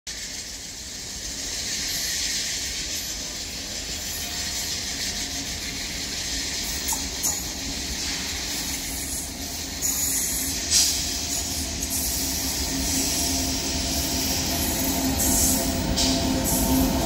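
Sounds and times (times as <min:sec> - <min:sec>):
electric locomotive rumbling: 0:00.1 - 0:17.0.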